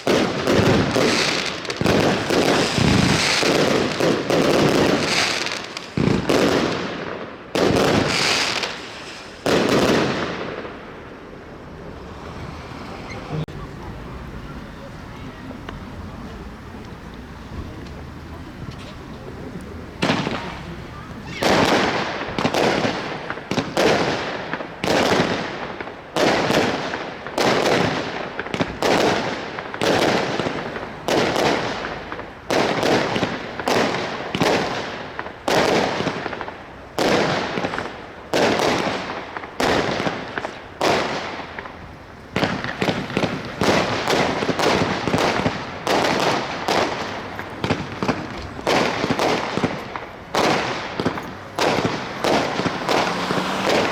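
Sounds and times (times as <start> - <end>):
firework bangs: 0.0 - 13.6, 17.5 - 53.9.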